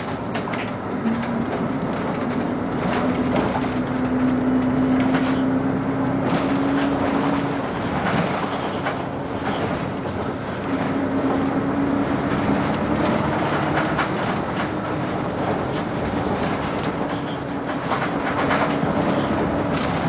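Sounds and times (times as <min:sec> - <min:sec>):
bus diesel engine and road noise: 0:00.0 - 0:20.0.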